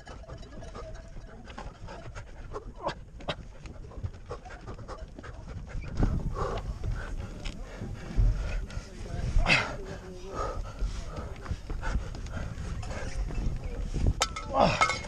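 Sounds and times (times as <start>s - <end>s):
runner panting hard: 0.0s - 14.2s
low rumble on microphone: 0.0s - 15.0s.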